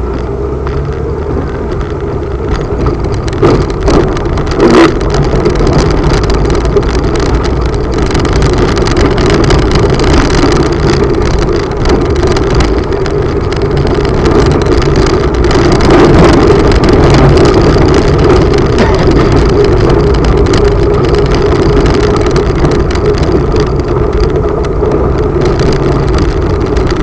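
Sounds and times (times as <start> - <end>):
vehicle engine running: 0.0 - 27.0
knocks and rattles: 0.1 - 27.0.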